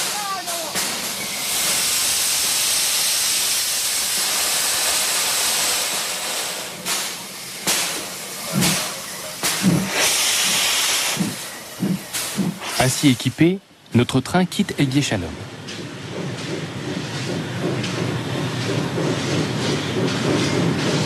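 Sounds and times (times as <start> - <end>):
steam locomotive chuffs: 0.0 - 21.0
steam locomotive hissing: 0.0 - 21.0.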